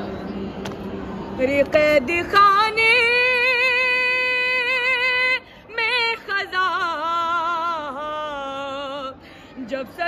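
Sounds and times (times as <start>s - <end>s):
woman singing a lament: 1.4s - 10.0s.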